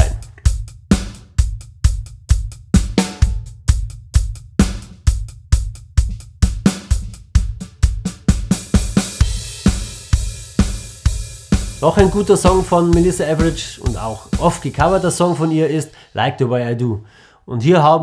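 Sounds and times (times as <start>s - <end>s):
bass drum and snare: 0.0s - 15.9s.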